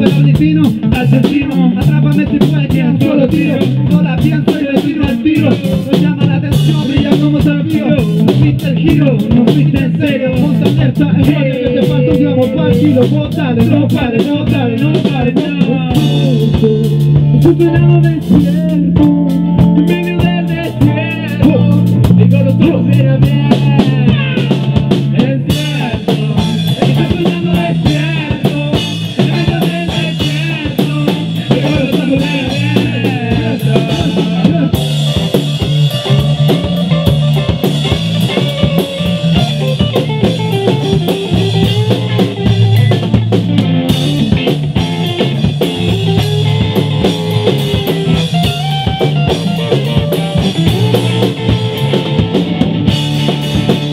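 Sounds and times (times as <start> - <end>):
bass guitar: 0.0 - 53.9
drum kit beat: 0.0 - 53.9
electric guitar: 0.0 - 53.9.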